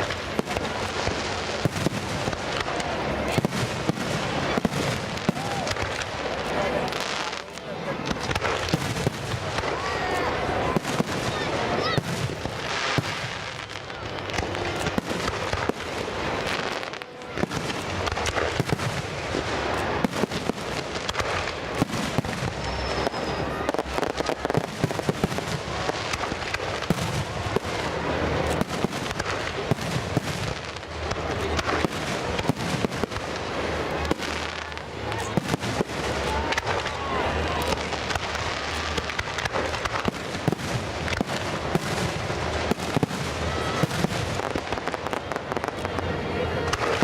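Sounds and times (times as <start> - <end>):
fireworks popping and crackling: 0.0 - 47.0.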